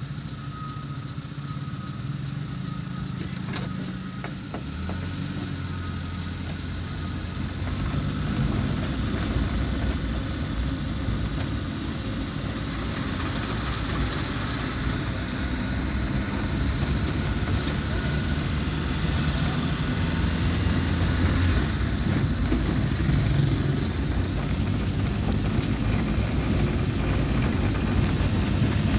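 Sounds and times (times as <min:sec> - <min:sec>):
vehicle engine and tyre drone: 0:00.0 - 0:28.9.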